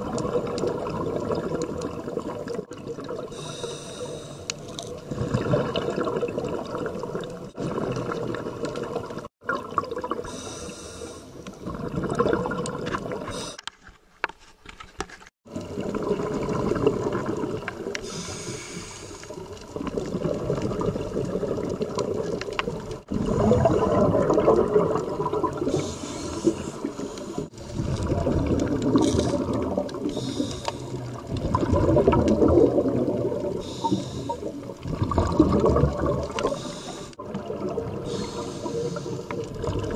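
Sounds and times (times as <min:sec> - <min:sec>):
underwater bubbling of exhaled air: 0:00.0 - 0:13.6, 0:15.5 - 0:39.9.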